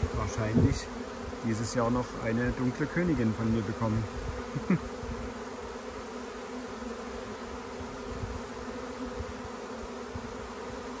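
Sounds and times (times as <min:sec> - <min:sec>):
bee swarm humming: 0:00.0 - 0:11.0.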